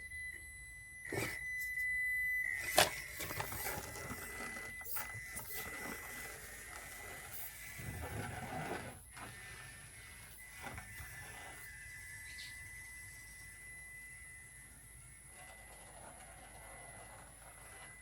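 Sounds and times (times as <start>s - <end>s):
electric motor and gears whirring: 0.0s - 18.0s.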